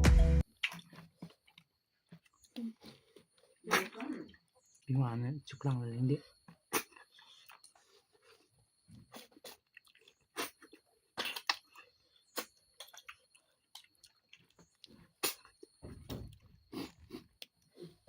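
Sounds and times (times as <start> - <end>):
chewing with wet smacks: 0.4 - 4.7, 6.4 - 15.7, 16.3 - 18.0.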